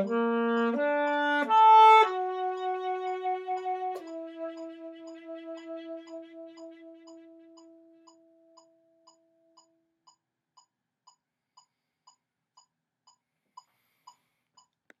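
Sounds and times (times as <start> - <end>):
metronome clicking: 0.0 - 15.0.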